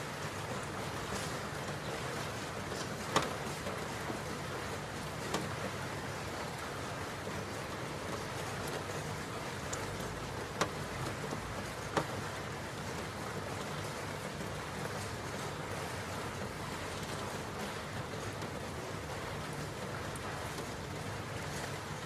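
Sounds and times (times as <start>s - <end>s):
raindrop ticks: 0.0s - 22.0s
steady rain hiss: 0.0s - 22.0s.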